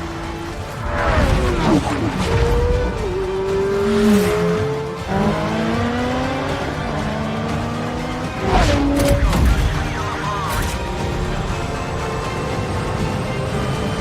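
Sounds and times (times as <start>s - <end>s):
film score music: 0.0s - 14.0s
racing car engines at speed: 0.0s - 14.0s.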